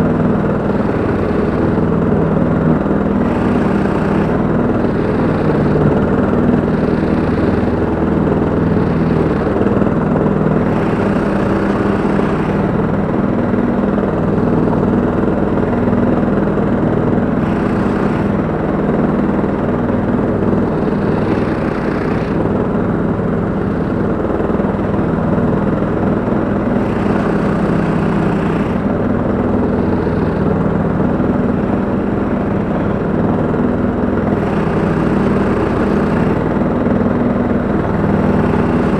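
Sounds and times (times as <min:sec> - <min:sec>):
lawn tractor and mower engines: 0:00.0 - 0:38.9.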